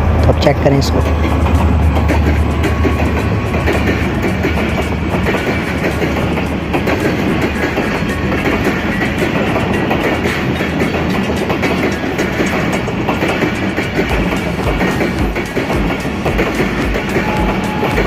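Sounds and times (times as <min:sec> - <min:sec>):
diesel locomotive engine rumble: 0:00.0 - 0:18.0
rail-joint clatter: 0:00.0 - 0:18.0
train wheels rumbling: 0:00.0 - 0:18.0.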